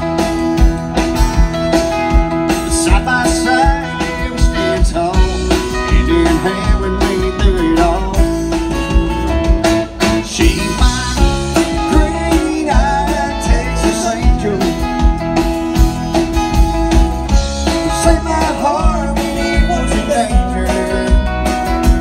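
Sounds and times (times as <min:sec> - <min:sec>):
electric guitar: 0:00.0 - 0:22.0
steady drum beat: 0:00.0 - 0:22.0.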